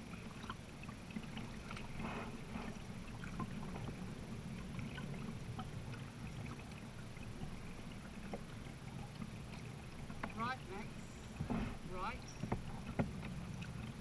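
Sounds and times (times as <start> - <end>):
paddle drips and splashes: 0.0 - 14.0
water rumbling along hull: 0.0 - 14.0.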